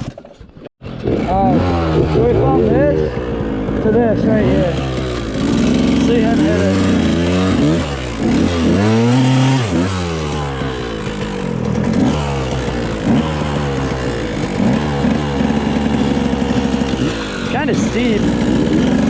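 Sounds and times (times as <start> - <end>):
dirt bike engine revving: 0.8 - 19.0.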